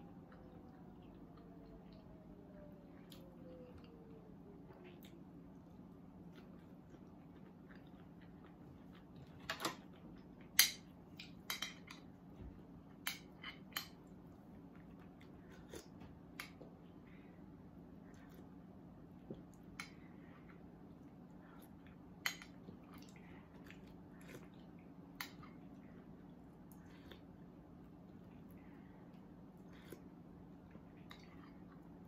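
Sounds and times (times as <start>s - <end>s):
faint low hum: 0.0s - 32.0s
chewing with mouth clicks: 2.8s - 12.1s, 12.9s - 17.0s, 18.0s - 32.0s.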